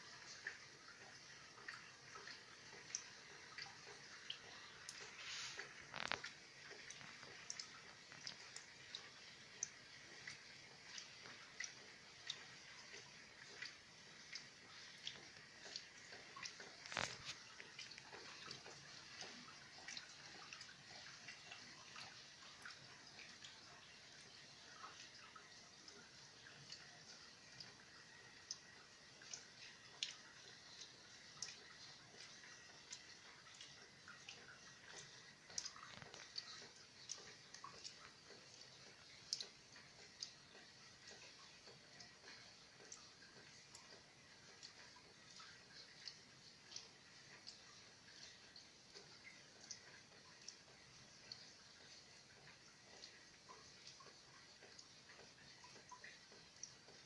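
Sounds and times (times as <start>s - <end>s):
raindrops tapping and dripping: 0.0s - 57.0s
soft rain hiss: 0.0s - 57.0s.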